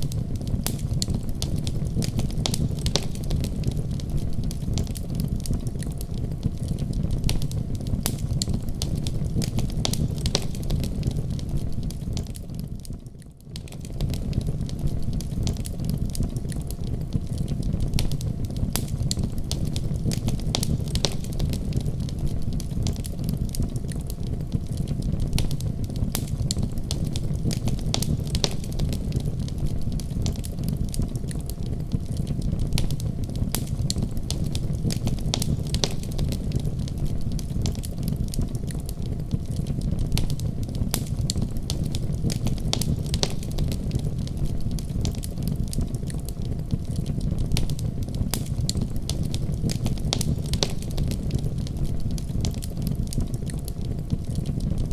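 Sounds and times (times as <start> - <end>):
fireplace fire crackling: 0.0 - 54.9
low rumble of flames: 0.0 - 54.9
sharp pops of fire: 0.0 - 54.9.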